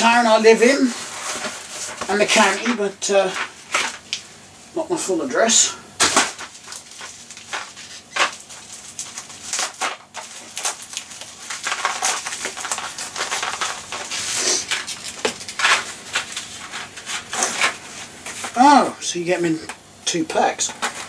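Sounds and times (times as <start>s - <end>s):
packaging crinkling and crackling: 0.0s - 4.3s, 6.0s - 18.6s.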